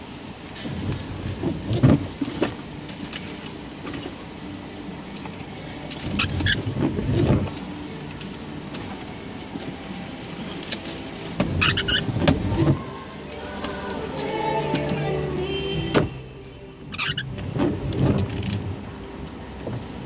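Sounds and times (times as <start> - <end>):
car and road noise: 0.0 - 20.0.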